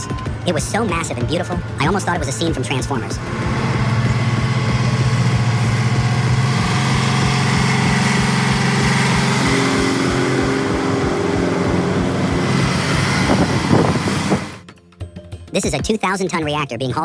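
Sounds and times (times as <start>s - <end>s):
truck diesel engine running: 0.0s - 14.6s.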